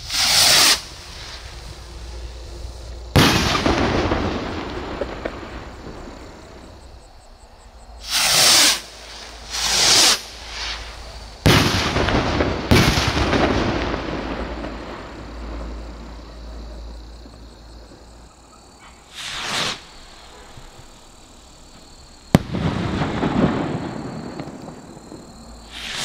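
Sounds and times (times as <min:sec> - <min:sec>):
firework bangs with rolling echo: 0:00.0 - 0:07.1, 0:08.0 - 0:18.1, 0:19.1 - 0:21.0, 0:21.7 - 0:26.0
rockets whooshing: 0:00.0 - 0:07.2, 0:08.0 - 0:16.8, 0:19.1 - 0:21.0, 0:22.3 - 0:26.0.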